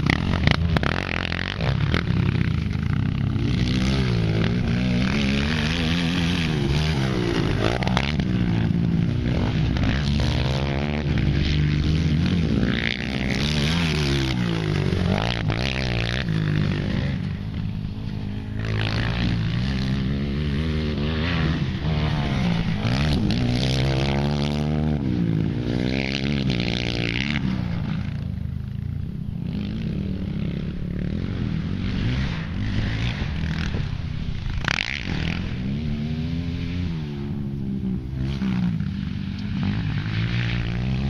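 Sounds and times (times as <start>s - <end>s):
quad engine revving: 0.0s - 28.3s, 29.4s - 41.0s.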